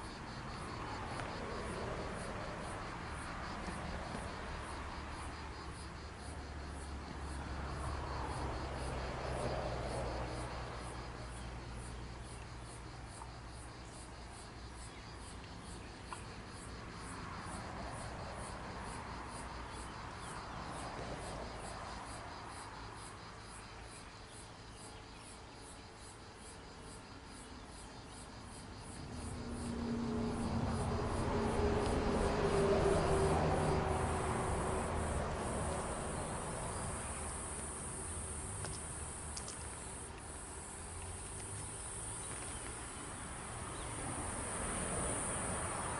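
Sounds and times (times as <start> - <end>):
insects chirping: 0.0 - 45.9.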